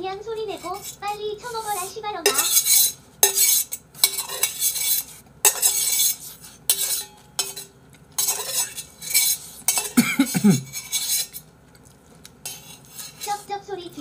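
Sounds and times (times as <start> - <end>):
metal spoon scraping a bowl: 0.3 - 11.5, 12.4 - 13.6.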